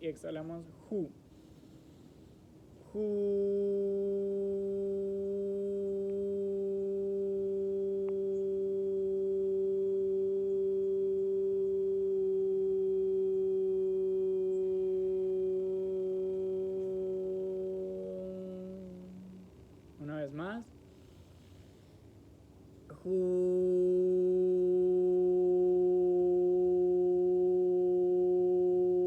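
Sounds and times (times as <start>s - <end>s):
person singing long low hum: 0.0s - 22.0s, 22.7s - 29.0s.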